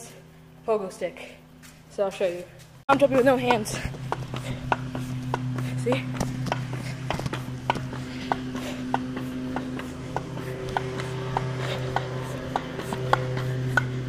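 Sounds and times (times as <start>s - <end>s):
steady low hum: 0.0s - 14.0s
pogo stick bouncing on concrete: 2.4s - 14.0s.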